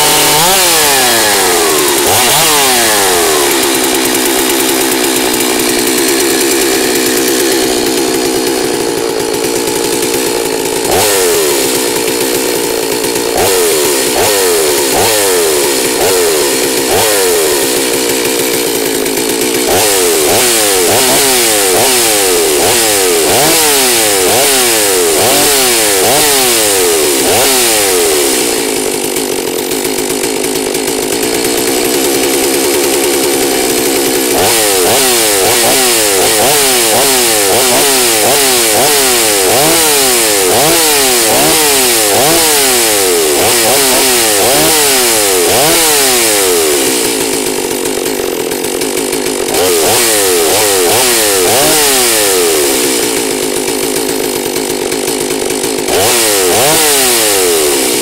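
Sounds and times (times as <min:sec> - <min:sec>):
chainsaw engine revving: 0:00.0 - 0:58.0.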